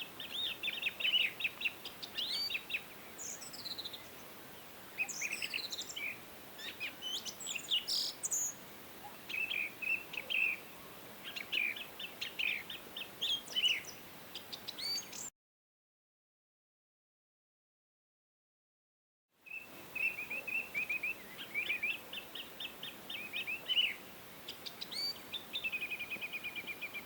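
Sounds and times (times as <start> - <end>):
faint background hiss: 0.0 - 15.3, 19.4 - 27.0
songbirds chirping and calling: 0.0 - 15.3, 19.5 - 27.0.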